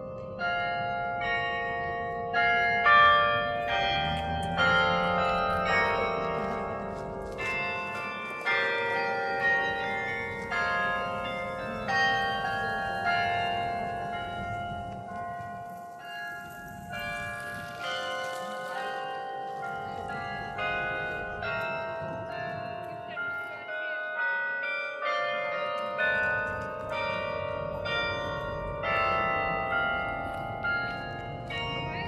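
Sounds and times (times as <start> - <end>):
carillon bell melody: 0.0 - 32.0.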